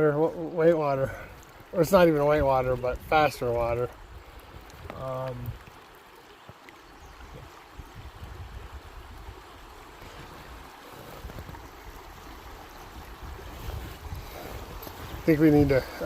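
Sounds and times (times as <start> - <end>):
river current rushing: 0.0 - 16.0.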